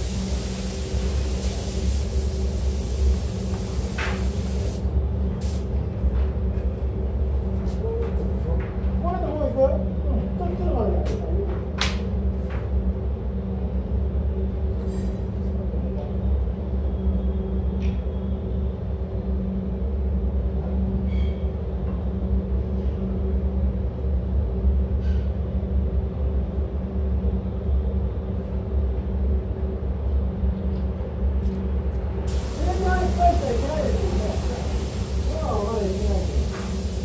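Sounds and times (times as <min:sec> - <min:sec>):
ventilation rumble and hum: 0:00.0 - 0:37.0.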